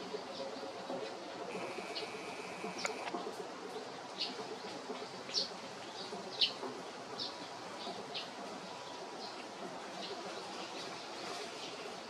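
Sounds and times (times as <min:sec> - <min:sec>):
outdoor background hum: 0:00.0 - 0:12.0
songbird chirping: 0:00.0 - 0:12.0.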